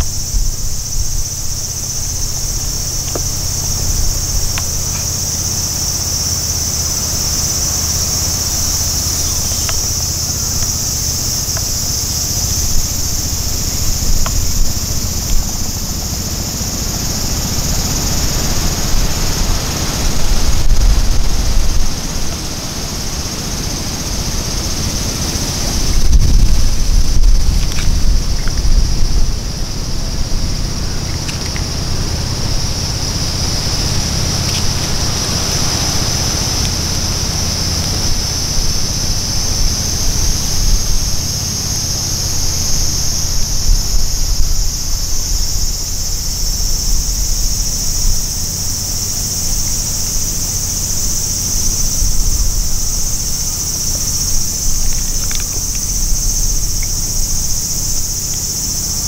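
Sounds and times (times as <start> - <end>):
wind buffeting microphone: 0.0 - 58.8
insects singing: 0.0 - 59.0.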